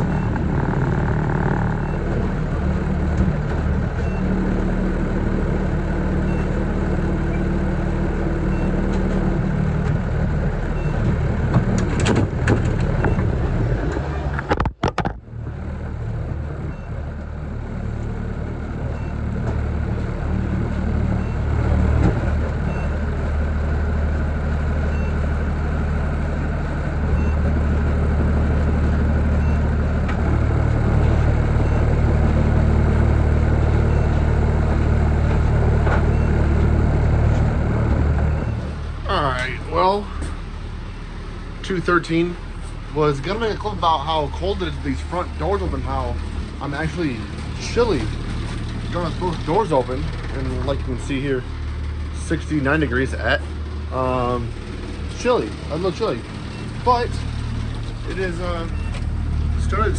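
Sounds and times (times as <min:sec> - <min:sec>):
van engine and road noise: 0:00.0 - 0:59.9.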